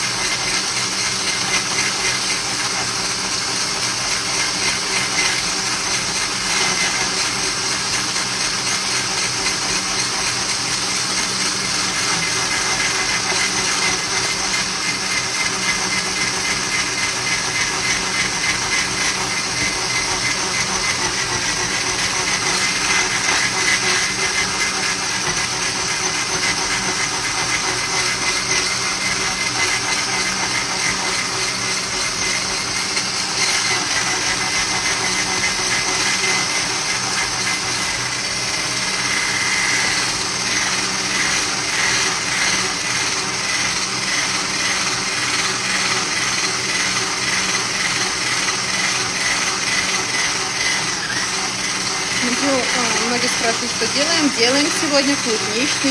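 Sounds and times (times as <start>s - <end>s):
electric blender whisking: 0.0s - 55.9s.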